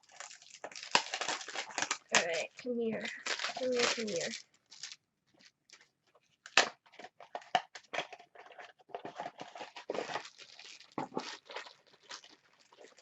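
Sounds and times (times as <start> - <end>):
plastic crinkling and tearing: 0.0 - 13.0.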